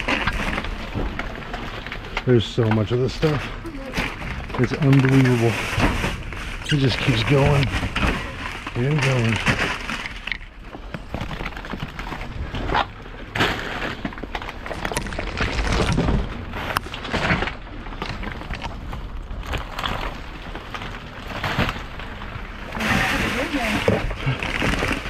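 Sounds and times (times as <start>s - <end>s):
rummaging through trash: 0.0s - 25.0s.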